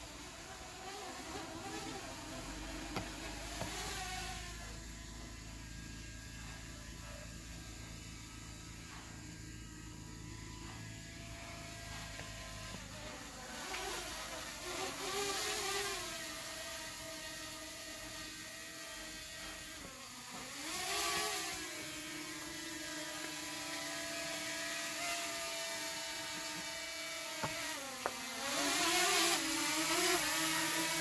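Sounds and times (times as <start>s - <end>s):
drone propellers whirring: 0.0s - 31.0s.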